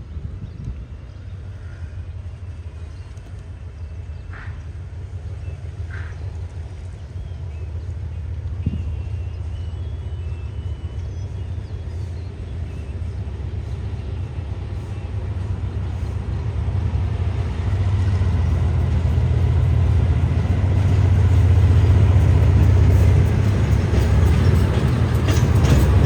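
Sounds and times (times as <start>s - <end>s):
diesel train engine rumbling: 0.0s - 26.0s.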